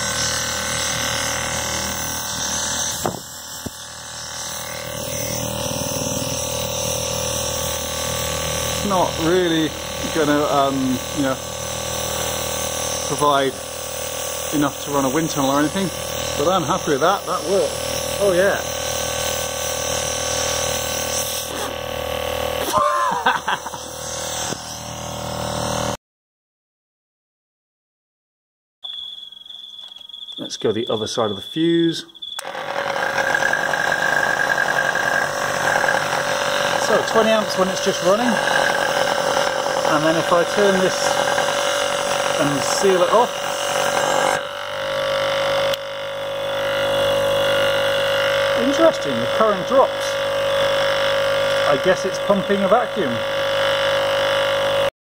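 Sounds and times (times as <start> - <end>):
electric air pump running: 0.0 - 26.0, 29.8 - 54.9.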